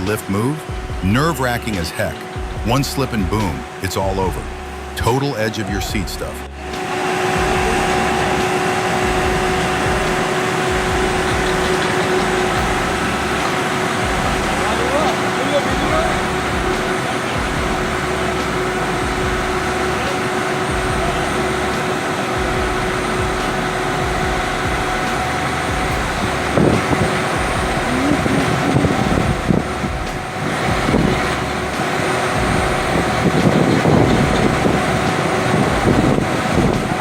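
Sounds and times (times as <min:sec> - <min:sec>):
heavy engine running: 0:00.0 - 0:37.0
outdoor site noise: 0:00.0 - 0:37.0.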